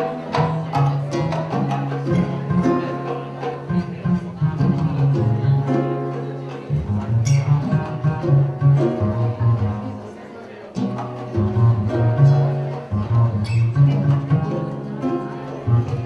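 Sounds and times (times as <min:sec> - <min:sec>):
upright bass notes: 0:00.0 - 0:10.2, 0:10.8 - 0:16.0
hand drum strokes: 0:00.0 - 0:16.0
plucked acoustic guitars: 0:00.0 - 0:16.0.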